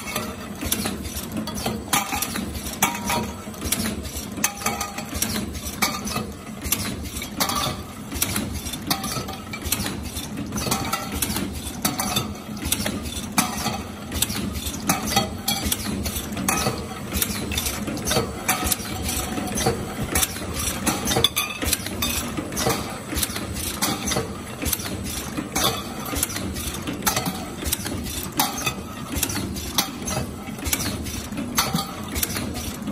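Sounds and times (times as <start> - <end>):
rapid clicks and clinks of cans: 0.0 - 32.9.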